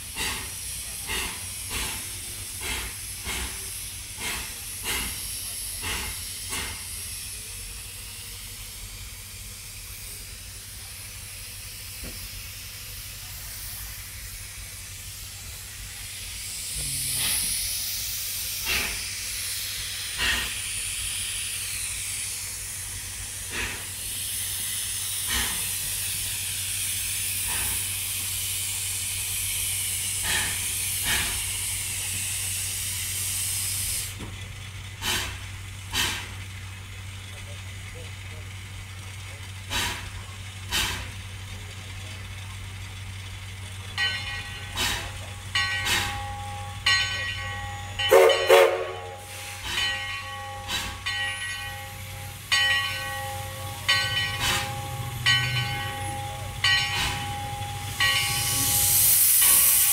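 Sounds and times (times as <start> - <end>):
steam locomotive hissing: 0.0 - 59.9
steam locomotive puffs: 0.0 - 59.9.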